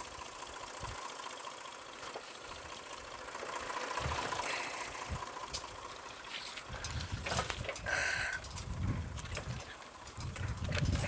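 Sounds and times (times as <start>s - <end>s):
forklift engine running: 0.0s - 11.0s.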